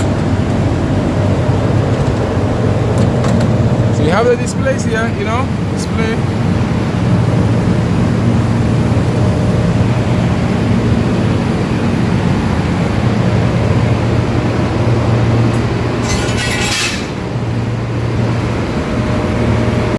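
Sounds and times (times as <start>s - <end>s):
refrigeration machinery drone: 0.0s - 19.9s.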